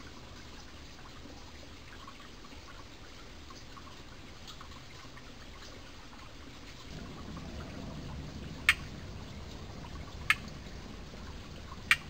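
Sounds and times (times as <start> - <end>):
stream flowing and trickling: 0.0 - 12.0.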